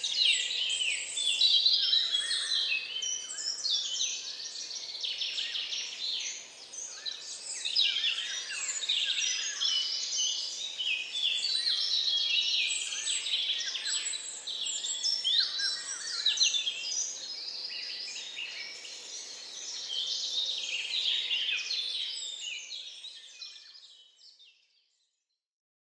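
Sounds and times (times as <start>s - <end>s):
birds singing: 0.0s - 24.4s.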